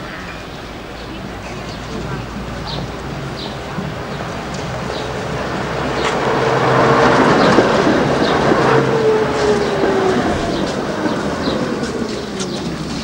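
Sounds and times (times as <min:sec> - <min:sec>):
descending tram whine: 0:00.0 - 0:13.0
electric tram passing: 0:00.0 - 0:13.0
wheels clicking on rails: 0:00.0 - 0:13.0.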